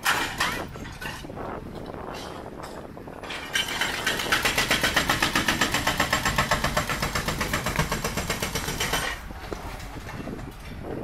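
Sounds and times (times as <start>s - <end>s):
demolition machinery pounding: 0.0s - 11.0s.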